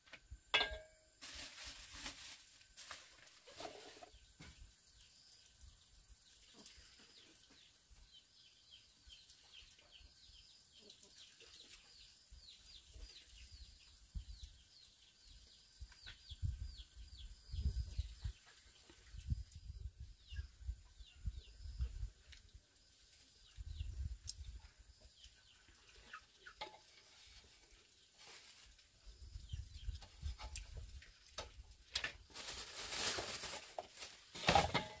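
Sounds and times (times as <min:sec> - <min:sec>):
small birds chirping: 0:02.9 - 0:34.3.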